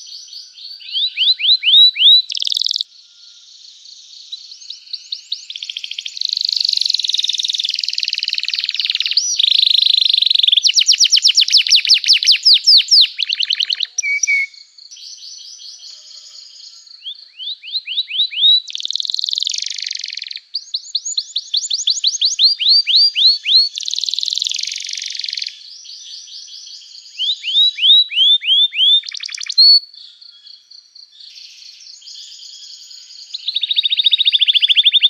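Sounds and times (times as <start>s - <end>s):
canary singing: 0.6s - 2.9s, 4.6s - 29.9s, 32.9s - 35.0s.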